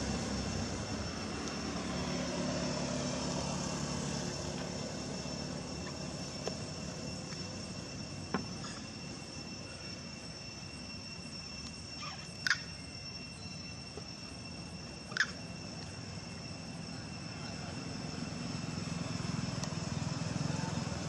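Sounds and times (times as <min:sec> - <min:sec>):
steady high whine: 0:00.0 - 0:21.0.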